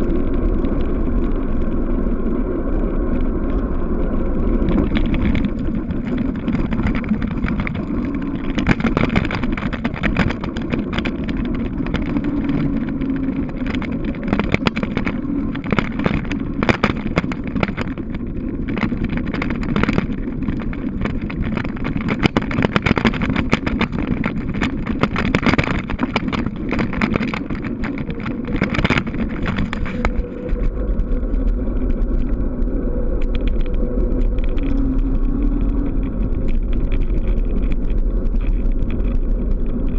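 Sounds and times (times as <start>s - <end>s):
tyres humming on asphalt: 0.0s - 39.9s
wind buffeting microphone: 0.0s - 39.9s
bicycle knocks and rattles: 3.0s - 39.9s.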